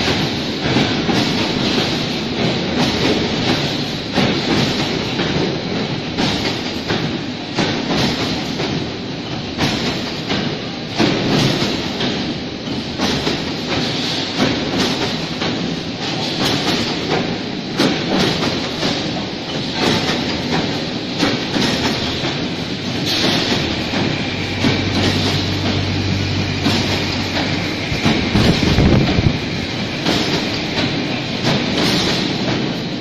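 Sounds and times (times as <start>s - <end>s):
mesh weaving machine clattering: 0.0s - 5.5s, 9.5s - 33.0s.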